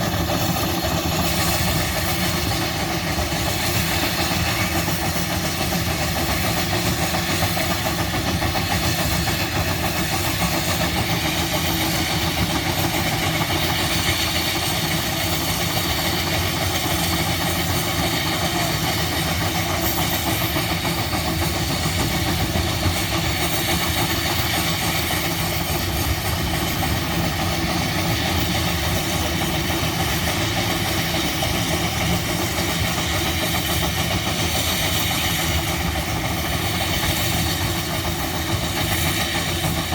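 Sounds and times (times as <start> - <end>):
old gas engines running: 0.0 - 39.9.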